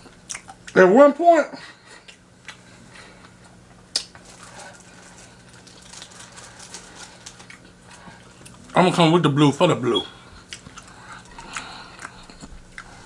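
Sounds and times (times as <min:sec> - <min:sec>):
chewing crispy chicken: 0:00.0 - 0:00.8, 0:01.8 - 0:09.1, 0:10.1 - 0:13.0
faint steady hum: 0:00.0 - 0:13.0.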